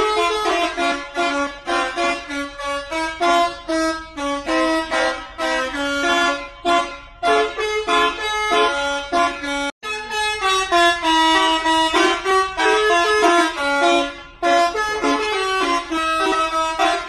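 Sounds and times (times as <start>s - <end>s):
multi-tone bus air horns playing tune: 0.0s - 17.0s.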